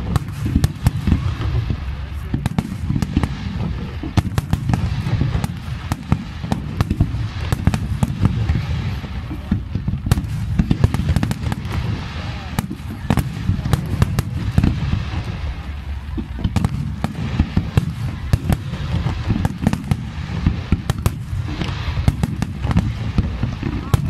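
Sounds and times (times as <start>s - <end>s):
booming firework bursts: 0.0s - 24.0s
sharp firework cracks: 0.0s - 24.0s.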